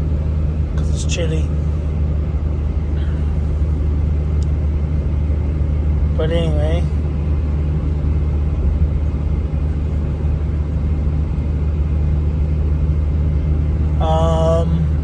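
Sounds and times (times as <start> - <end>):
diesel truck engine droning: 0.0 - 15.0.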